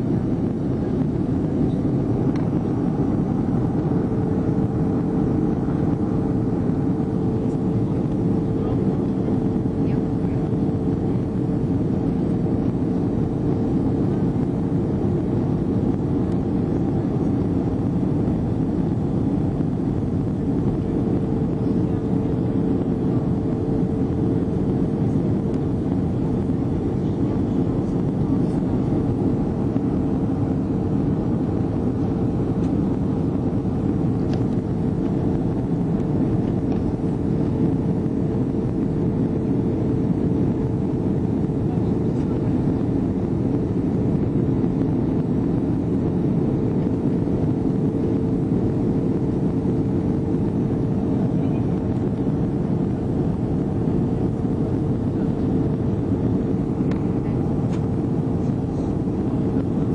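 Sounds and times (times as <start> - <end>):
droning hum: 0.0 - 59.9
jet engines roaring: 0.0 - 59.9.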